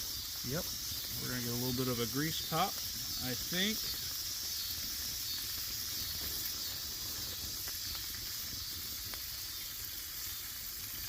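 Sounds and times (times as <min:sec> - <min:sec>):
bacon sizzling in a skillet: 0:00.0 - 0:11.0
grease pops: 0:00.0 - 0:11.0.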